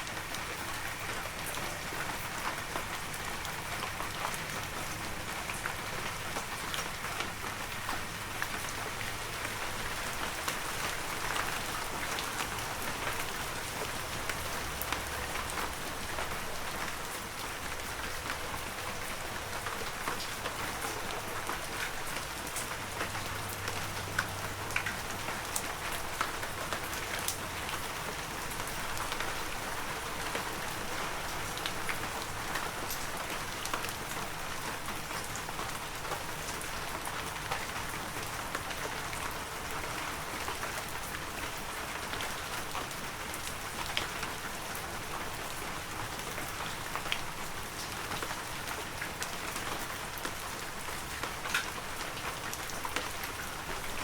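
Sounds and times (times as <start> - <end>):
heavy rain falling: 0.0 - 54.0
raindrops pattering on surfaces: 0.0 - 54.0.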